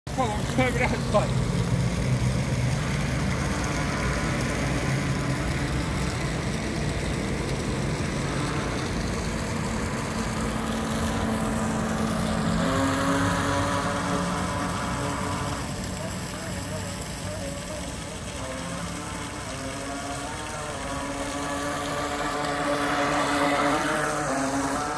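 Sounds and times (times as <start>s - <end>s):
toy boat motor humming: 0.1s - 24.9s.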